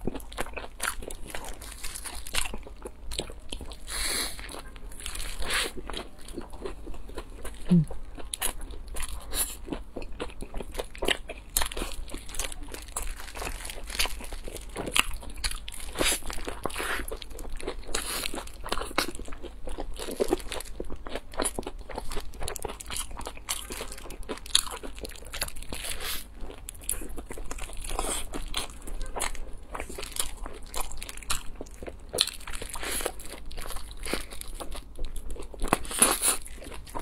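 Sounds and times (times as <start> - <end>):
chewing crunchy fried food: 0.0 - 37.0.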